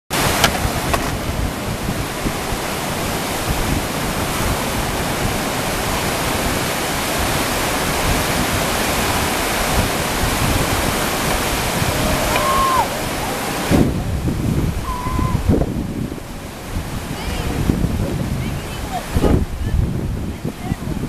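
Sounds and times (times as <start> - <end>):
whitewater rapids roaring: 0.1 - 21.0.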